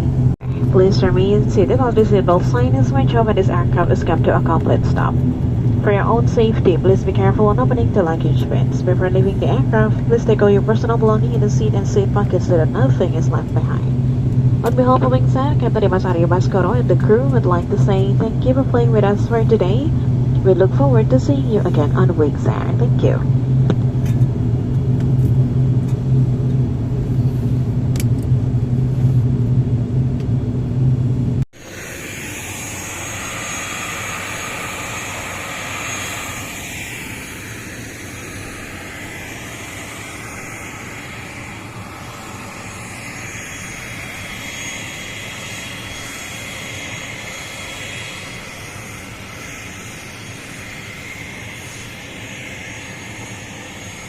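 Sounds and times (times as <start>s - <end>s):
airliner cabin propeller drone: 0.0s - 54.0s
faint high whine: 0.0s - 54.0s.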